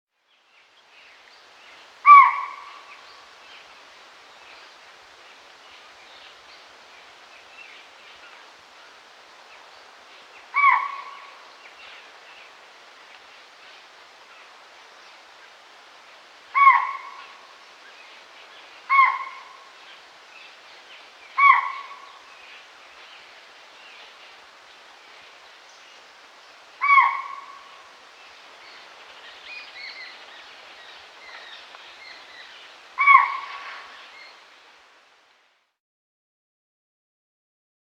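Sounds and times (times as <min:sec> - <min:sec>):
soft forest background: 0:00.1 - 0:35.8.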